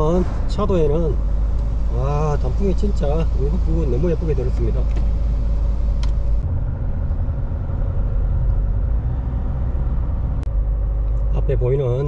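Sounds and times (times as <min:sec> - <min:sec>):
car engine rumble: 0:00.0 - 0:12.0
tyres on road: 0:00.0 - 0:12.0.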